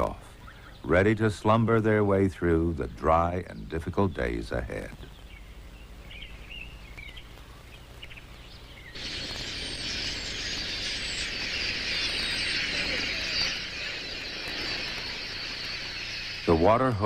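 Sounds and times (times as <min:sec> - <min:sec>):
dense chorus of bird chirping: 0:00.0 - 0:17.0.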